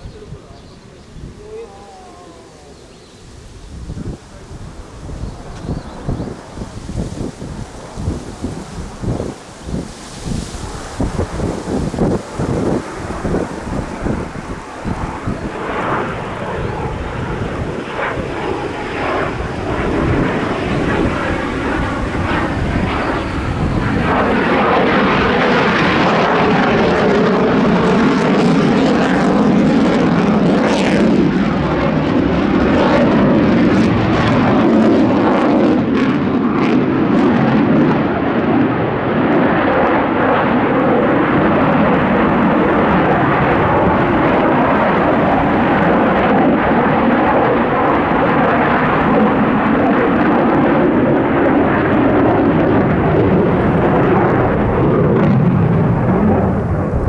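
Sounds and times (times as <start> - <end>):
fighter jet engine roar: 0.0 - 57.0.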